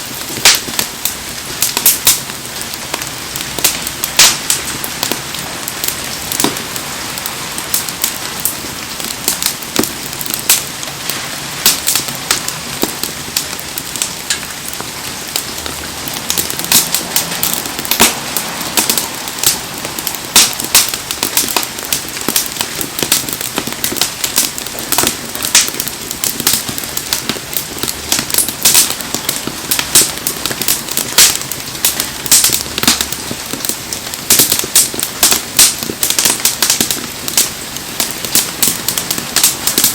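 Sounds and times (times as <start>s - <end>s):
bonfire crackling and popping: 0.0s - 39.9s
heavy rain: 0.0s - 39.9s.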